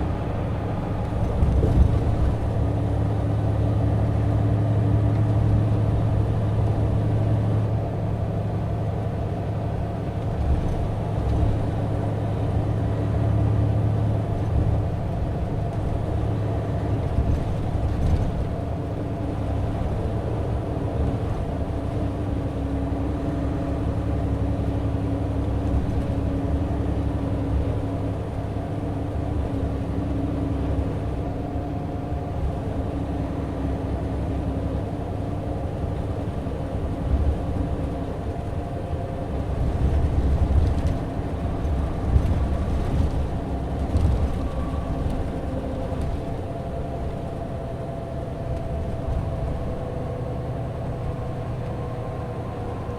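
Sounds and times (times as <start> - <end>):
tyre and road noise: 0.0 - 7.3, 10.0 - 52.9
coach diesel engine drone: 0.0 - 52.9.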